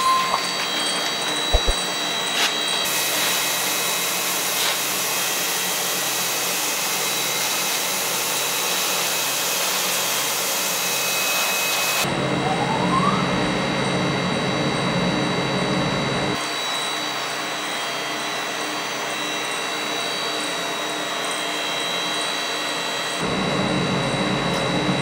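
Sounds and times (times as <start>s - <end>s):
machine whine: 0.0s - 25.0s.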